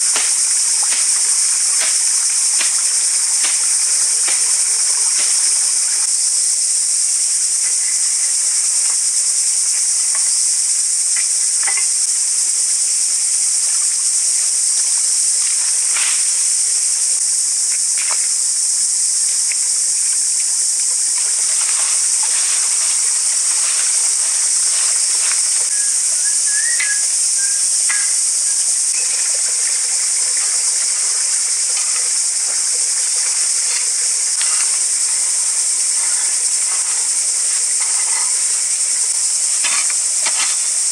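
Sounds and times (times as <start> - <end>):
high-pitched hiss: 0.0 - 40.9.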